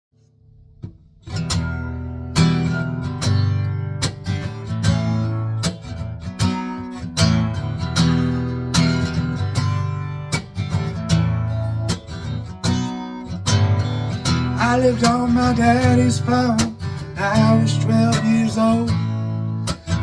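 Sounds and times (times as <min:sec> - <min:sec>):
acoustic guitar strumming: 0:00.7 - 0:20.0.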